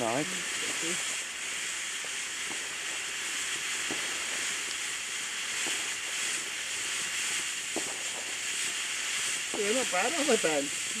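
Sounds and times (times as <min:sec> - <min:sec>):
faint crackles: 0:00.0 - 0:11.0
firework fountain hissing: 0:00.0 - 0:11.0.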